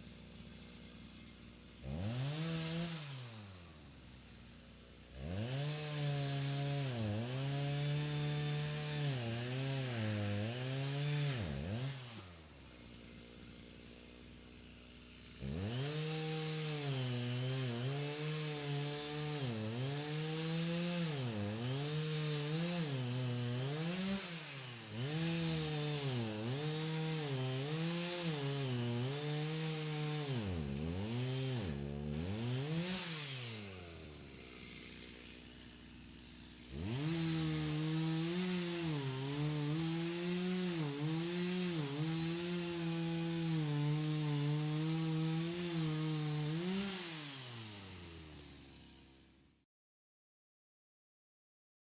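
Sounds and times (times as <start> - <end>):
distant chainsaw cutting wood: 0.0 - 49.6.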